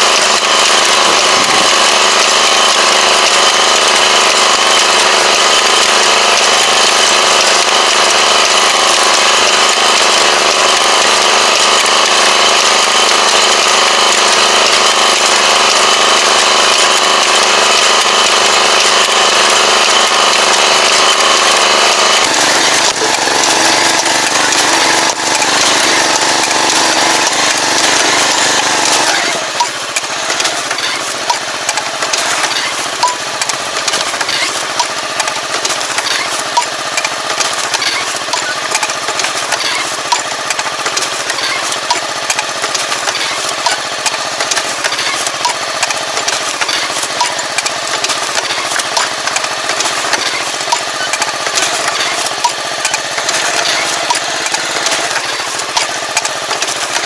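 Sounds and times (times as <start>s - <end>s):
planting mechanism clicking: 0.0s - 57.0s
small engine running: 0.0s - 57.0s.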